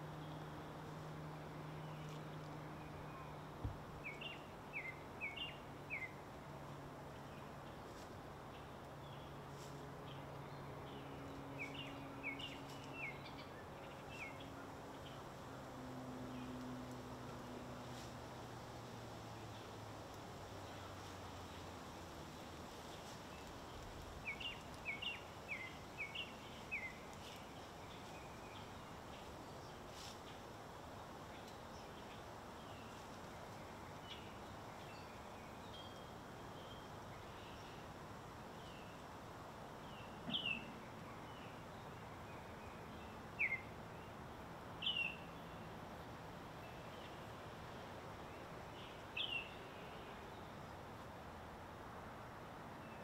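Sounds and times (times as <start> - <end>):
small birds chirping: 0.0 - 50.8
steady background hiss: 0.0 - 53.0.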